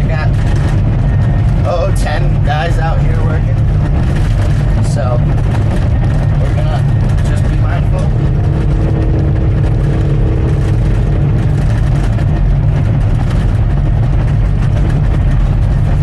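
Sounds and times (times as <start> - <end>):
bulldozer diesel engine running: 0.0 - 16.0
faint steady whine: 0.0 - 16.0.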